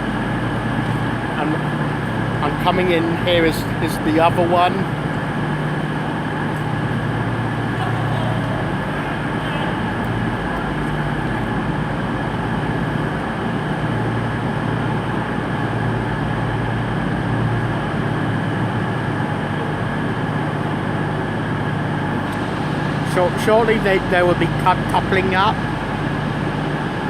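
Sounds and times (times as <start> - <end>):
train diesel engines droning: 0.0 - 27.0.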